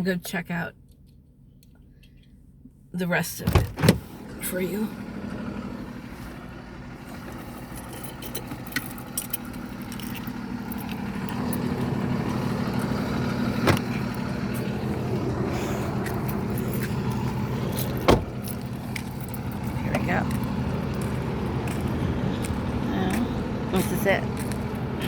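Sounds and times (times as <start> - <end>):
vehicle engine humming: 3.4 - 25.0.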